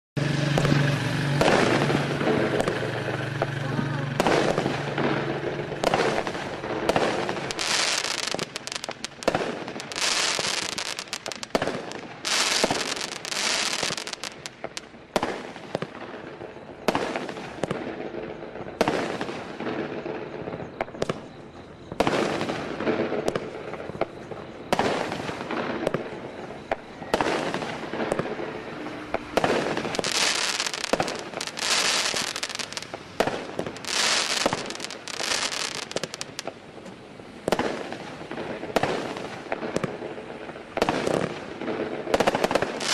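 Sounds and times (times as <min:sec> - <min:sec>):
crackling hiss of fireworks: 0:00.2 - 0:42.9
fireworks popping and bursting: 0:00.2 - 0:42.9.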